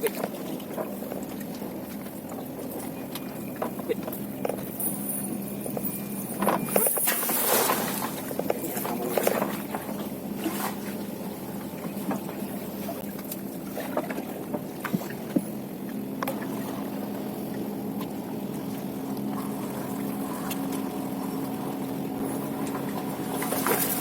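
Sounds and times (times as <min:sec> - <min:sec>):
small boat motor humming: 0:00.0 - 0:24.0.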